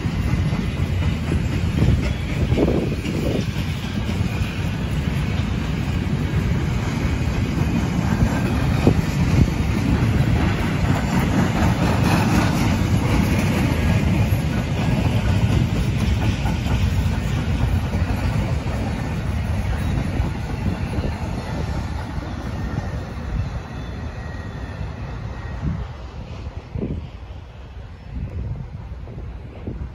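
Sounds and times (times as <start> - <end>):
train wheels rolling on rails: 0.0 - 29.9.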